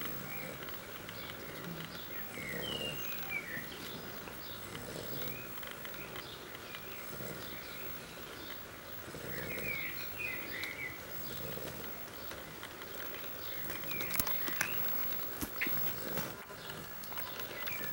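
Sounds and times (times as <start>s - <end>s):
sharp clicks: 0.0s - 8.7s, 9.3s - 17.9s
young animals snoring: 0.0s - 17.9s.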